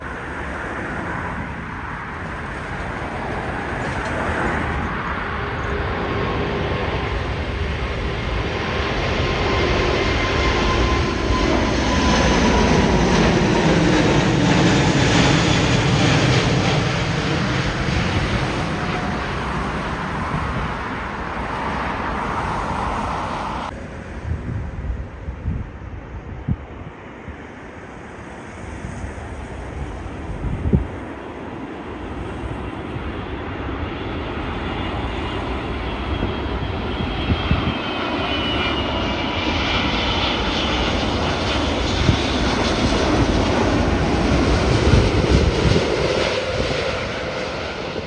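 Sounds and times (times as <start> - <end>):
jet airliner flying past: 0.0 - 48.0.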